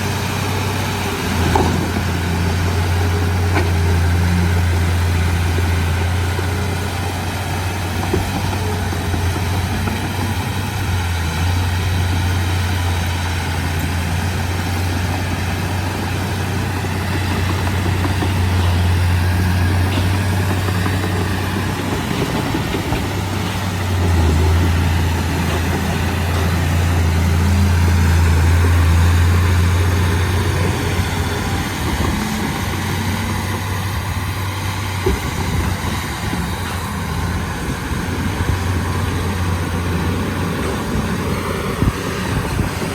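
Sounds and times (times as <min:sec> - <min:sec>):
heavy diesel engine droning: 0:00.0 - 0:42.9.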